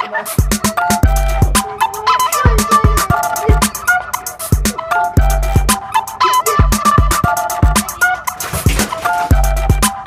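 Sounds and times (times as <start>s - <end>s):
hip-hop music with bass and hi-hats: 0.0s - 10.0s.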